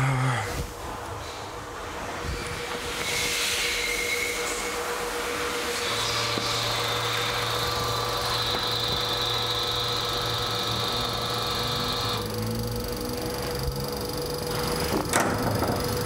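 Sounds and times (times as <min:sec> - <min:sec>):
high whine: 0:00.0 - 0:16.0
motor and pump humming: 0:02.6 - 0:16.0.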